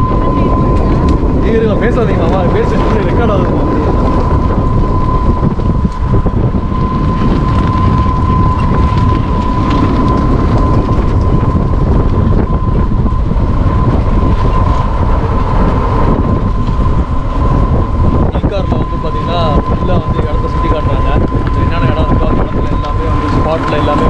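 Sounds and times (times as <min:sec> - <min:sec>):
cart rolling along a path: 0:00.0 - 0:24.0
steady high-pitched whine: 0:00.0 - 0:24.0
wind buffeting microphone: 0:00.0 - 0:24.0.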